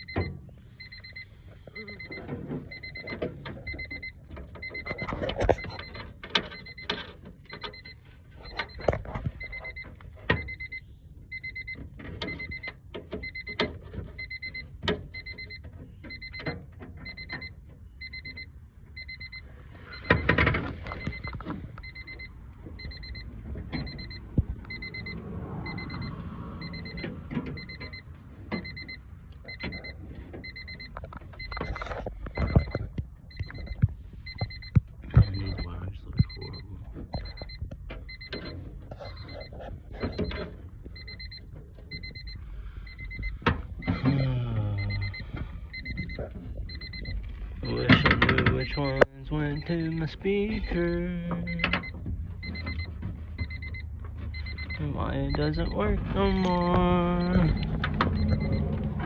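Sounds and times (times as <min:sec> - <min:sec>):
car warning chime beeping: 0:00.0 - 0:59.0.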